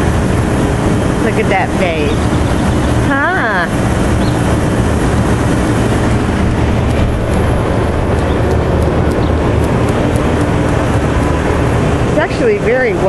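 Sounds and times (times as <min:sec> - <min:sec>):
machine hum with low rumble: 0:00.0 - 0:13.0.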